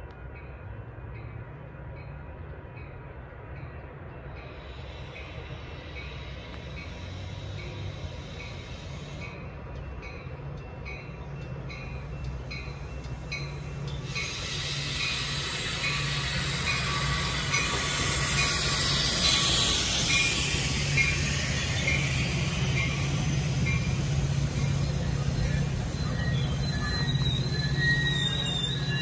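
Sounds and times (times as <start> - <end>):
train rolling past on rails: 0.0 - 29.0.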